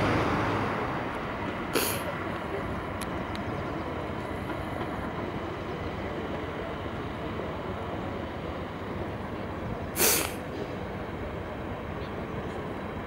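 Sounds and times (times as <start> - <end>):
rail vehicle rumbling: 0.0 - 13.0.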